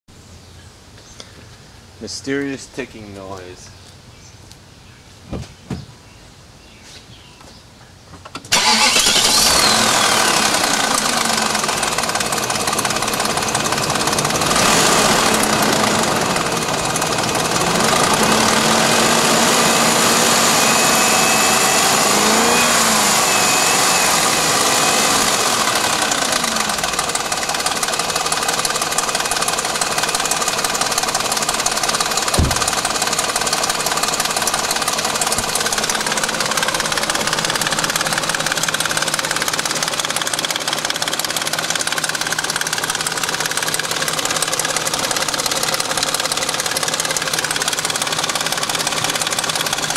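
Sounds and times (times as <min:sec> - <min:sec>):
car engine starting: 0:08.3 - 0:49.9
car engine revving: 0:08.5 - 0:49.9
engine ticking: 0:08.5 - 0:49.9.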